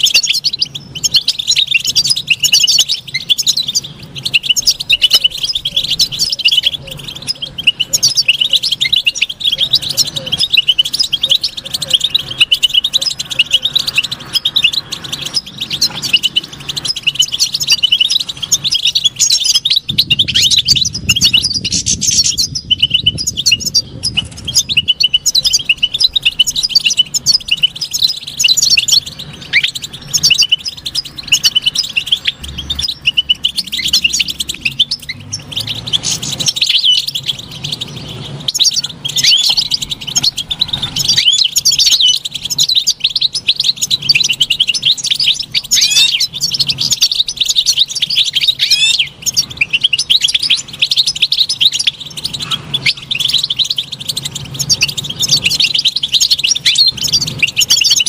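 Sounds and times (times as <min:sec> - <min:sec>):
bird twittering and trilling: 0:00.0 - 0:58.0.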